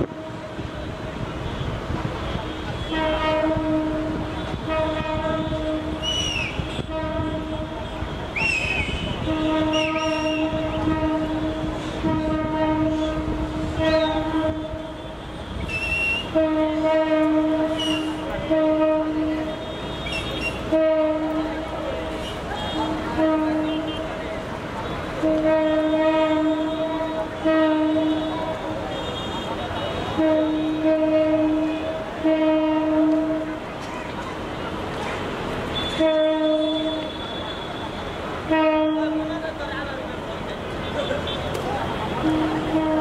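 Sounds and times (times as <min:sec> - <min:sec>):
train horn toots: 0:00.0 - 0:33.7, 0:35.8 - 0:39.6, 0:40.8 - 0:43.0
low train rumble: 0:00.0 - 0:43.0.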